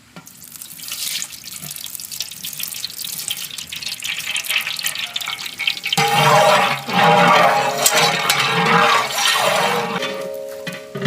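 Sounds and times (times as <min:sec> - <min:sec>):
oil pouring into a pot: 0:00.2 - 0:09.5.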